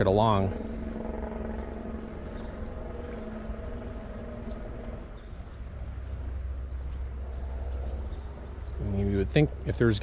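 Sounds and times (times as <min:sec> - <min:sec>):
insects droning: 0:00.0 - 0:10.0
low steady rumble: 0:00.0 - 0:10.0.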